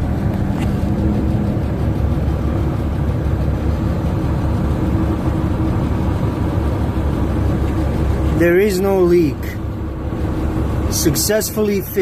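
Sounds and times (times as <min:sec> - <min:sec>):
heavy vehicle engine rumble: 0:00.0 - 0:12.0
road noise: 0:00.0 - 0:12.0.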